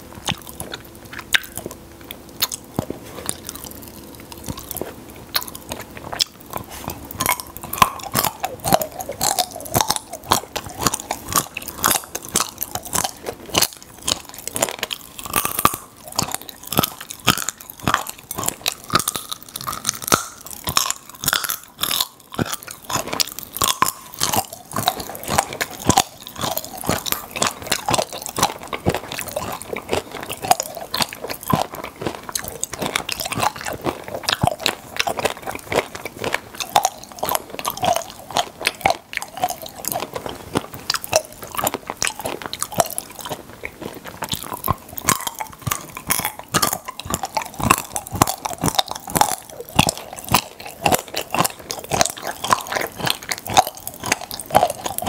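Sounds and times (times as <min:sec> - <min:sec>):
chewing and crunching: 0:00.0 - 0:55.0
popping candy crackle: 0:00.3 - 0:55.0.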